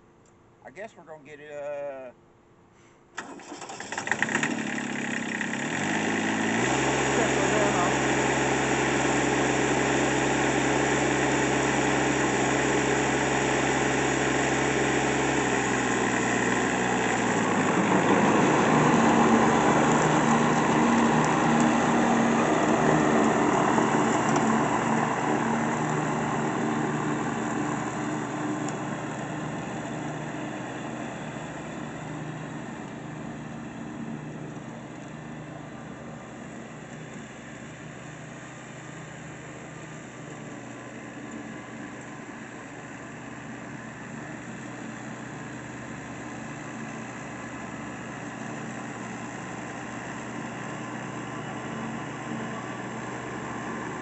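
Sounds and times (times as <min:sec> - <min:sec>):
tractor diesel engine running: 0:03.2 - 0:54.0.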